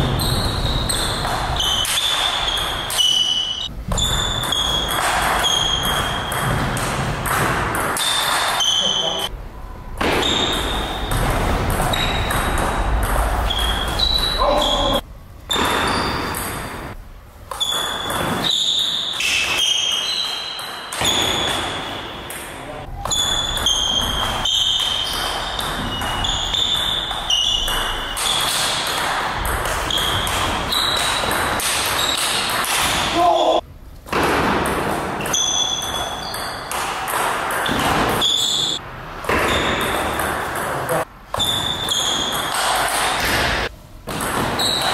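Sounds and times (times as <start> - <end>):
shoes squeaking on floor: 0.0 - 6.8, 7.9 - 9.3, 10.0 - 12.6, 13.3 - 29.0, 29.8 - 32.5, 35.2 - 36.8, 37.6 - 40.2, 41.0 - 43.7, 44.4 - 44.9.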